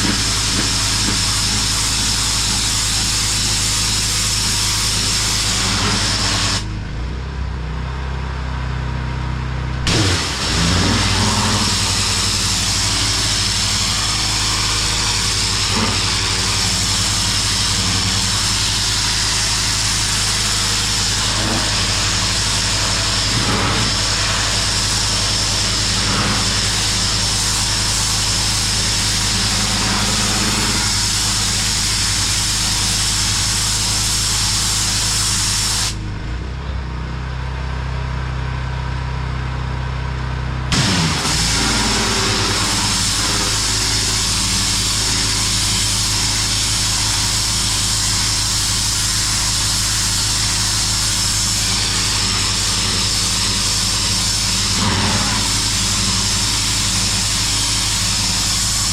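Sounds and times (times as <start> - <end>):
high-pressure water spray hiss: 0.0 - 6.7, 9.9 - 36.0, 40.7 - 58.9
pressure washer engine running: 0.0 - 7.0, 8.6 - 36.2, 38.2 - 58.9.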